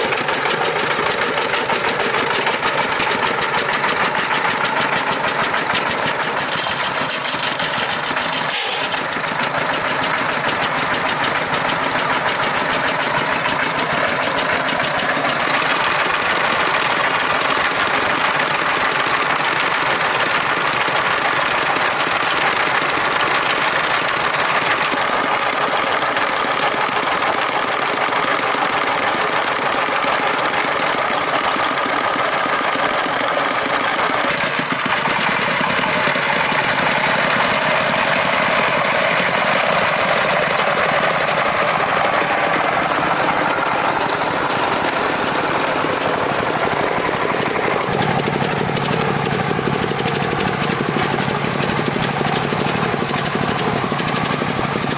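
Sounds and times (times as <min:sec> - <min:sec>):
truck engine chugging: 0:00.0 - 0:54.9.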